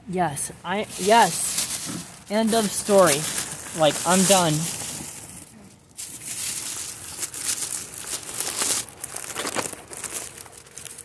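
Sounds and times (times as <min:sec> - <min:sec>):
small crackles: 0:01.0 - 0:11.0.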